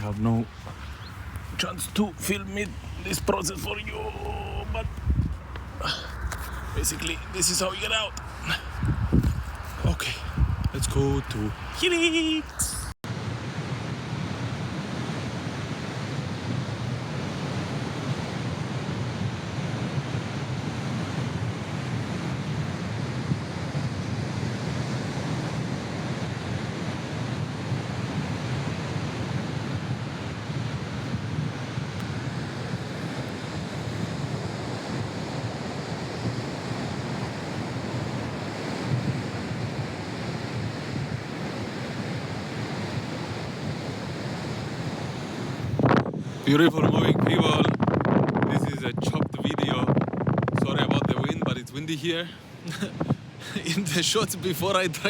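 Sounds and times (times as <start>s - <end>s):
sea surf: 0.0s - 8.8s, 9.6s - 47.8s, 50.6s - 55.0s
strong wind buffeting microphone: 0.0s - 54.5s.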